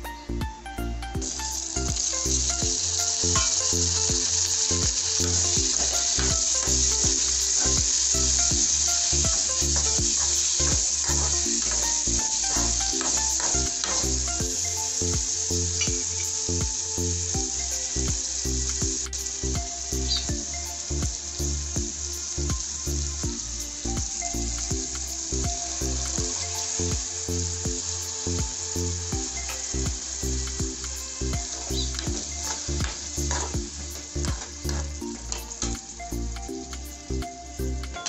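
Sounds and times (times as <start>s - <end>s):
vegetables sizzling in hot oil: 1.2s - 38.0s.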